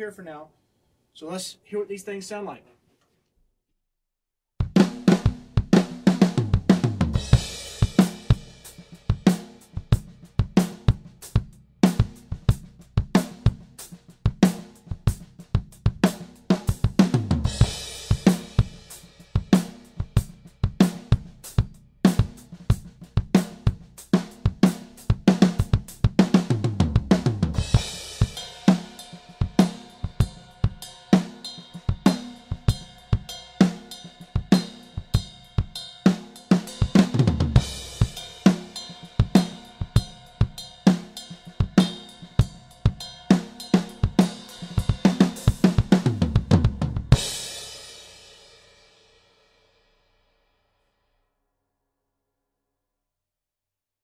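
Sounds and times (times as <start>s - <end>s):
drum kit groove: 4.6s - 48.8s.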